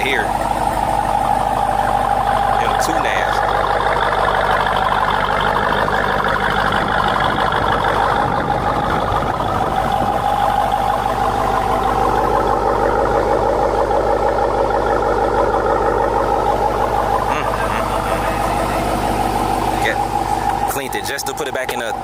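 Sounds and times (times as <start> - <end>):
vehicle engine idling with whine: 0.0 - 22.0.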